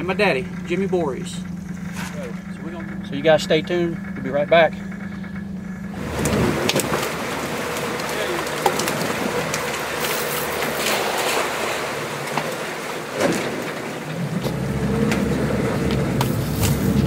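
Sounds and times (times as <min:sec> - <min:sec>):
boat motor hum: 0:00.0 - 0:17.0
water noise: 0:00.0 - 0:17.0
wind: 0:00.0 - 0:17.0.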